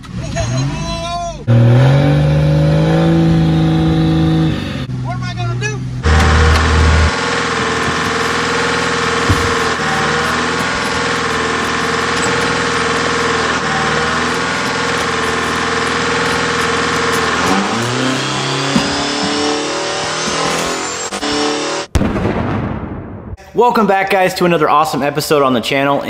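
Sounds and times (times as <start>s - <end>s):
diesel engine revving high: 0.0s - 21.9s.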